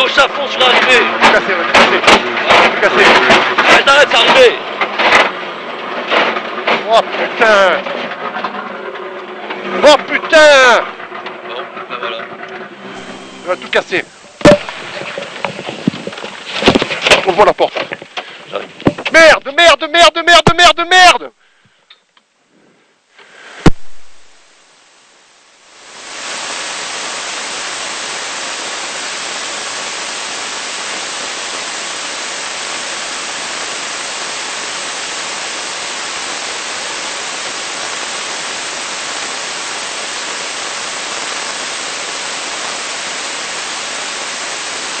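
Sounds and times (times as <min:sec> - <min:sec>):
white noise static hiss: 0:00.0 - 0:45.0.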